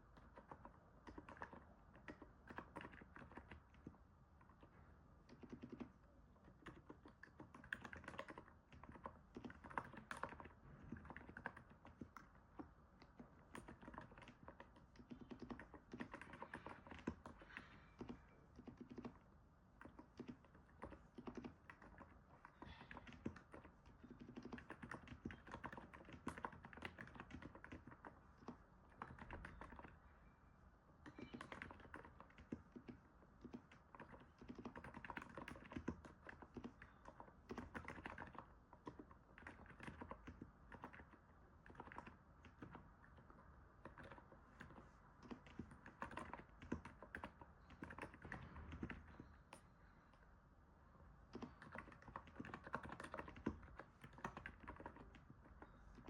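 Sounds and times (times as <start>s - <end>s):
soft keyboard typing: 0.0s - 56.0s.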